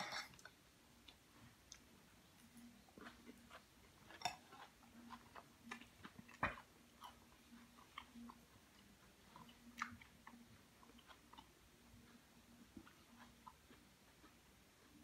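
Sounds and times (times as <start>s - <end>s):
chewing salad crunches: 1.1s - 15.0s.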